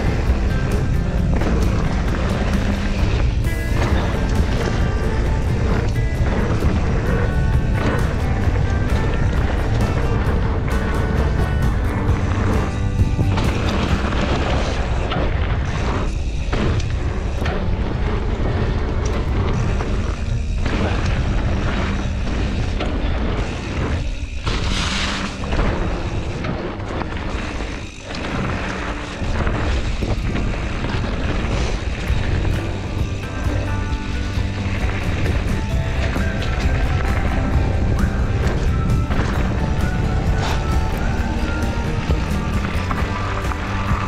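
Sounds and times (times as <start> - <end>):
wind buffeting microphone: 0.0 - 24.1, 25.3 - 44.0
background music: 0.0 - 44.0
bike tyres rumbling on dirt: 0.0 - 44.0.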